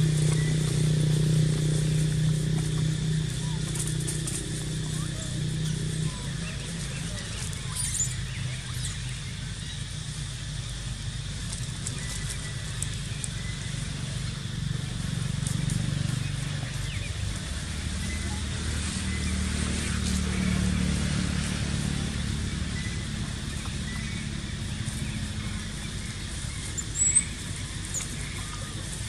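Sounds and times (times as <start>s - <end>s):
vehicle engine passing: 0.0s - 9.6s, 10.2s - 29.0s.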